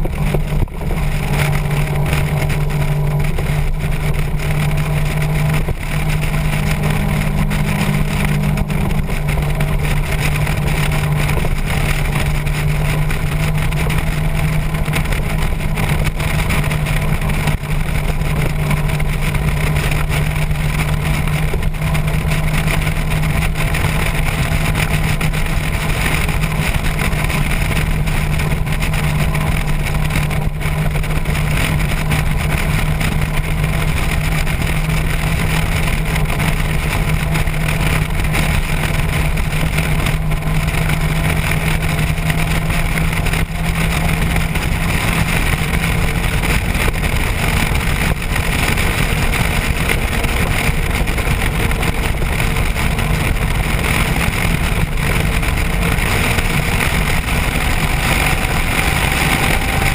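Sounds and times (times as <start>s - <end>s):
motorcycle engine cruising: 0.0s - 59.9s
wind rushing: 0.0s - 59.9s.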